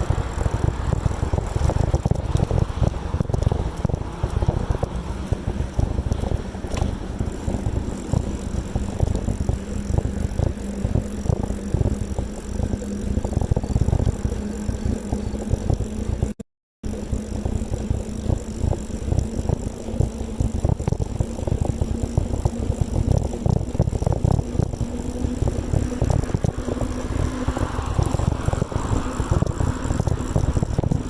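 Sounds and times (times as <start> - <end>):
bicycle rattling over pavement: 0.0 - 31.0.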